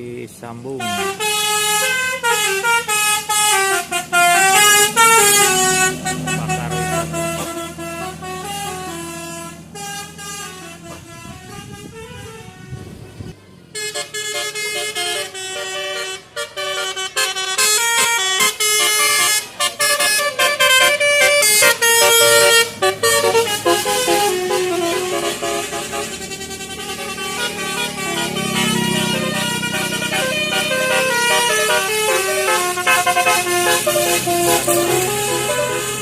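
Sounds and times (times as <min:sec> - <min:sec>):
multi-tone bus air horns tune: 0:00.6 - 0:36.0.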